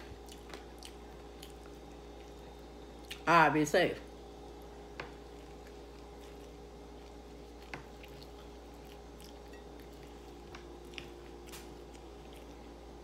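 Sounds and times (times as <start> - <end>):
person chewing: 0.0 - 3.2, 4.4 - 13.0.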